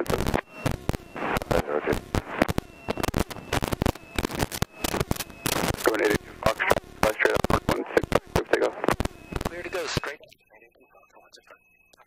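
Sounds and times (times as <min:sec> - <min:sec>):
crackling radio static: 0:00.0 - 0:12.0.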